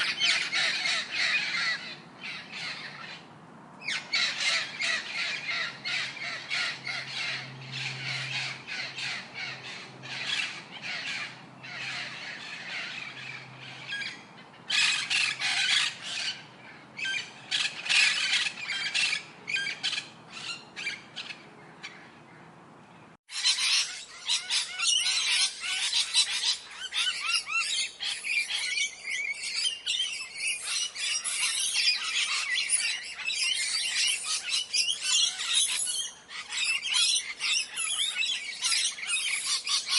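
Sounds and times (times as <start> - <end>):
parrots squawking and chattering: 0.0 - 22.1, 23.3 - 39.9.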